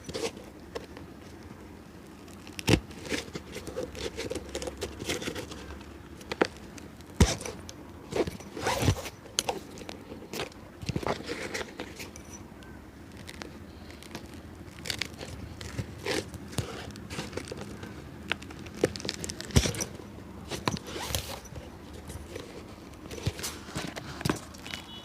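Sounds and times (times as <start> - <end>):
hand tools tapping and scraping: 2.7 - 25.0.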